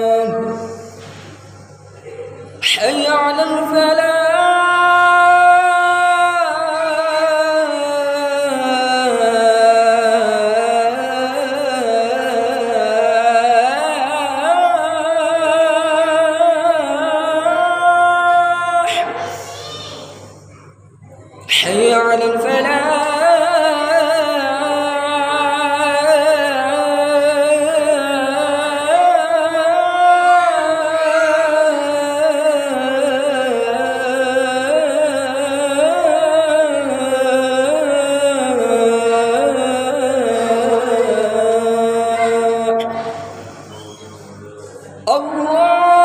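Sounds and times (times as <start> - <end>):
man chanting call to prayer: 0.0 - 1.0, 2.1 - 20.5, 21.4 - 46.0.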